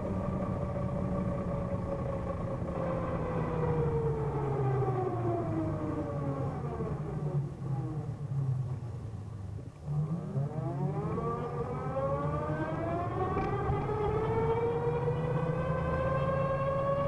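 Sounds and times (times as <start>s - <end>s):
steady low hum: 0.0s - 15.5s
electric scooter gear whine: 0.0s - 17.0s.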